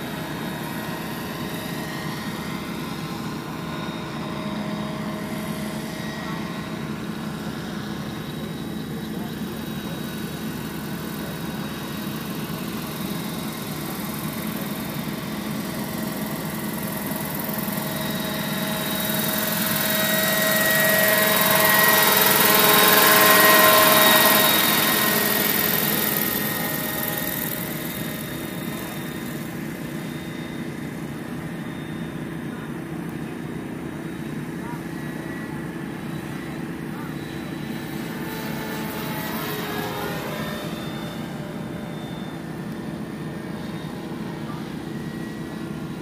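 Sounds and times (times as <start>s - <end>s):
model helicopter whine: 0.0s - 46.0s.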